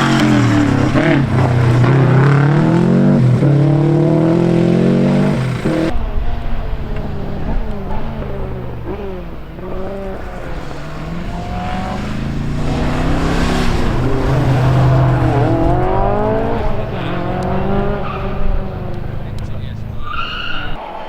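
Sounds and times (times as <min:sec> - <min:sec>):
rally car engine revving: 0:00.0 - 0:20.8.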